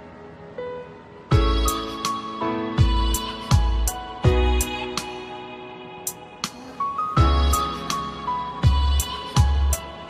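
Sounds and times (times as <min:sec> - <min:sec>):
melodic background music: 0:00.0 - 0:10.0.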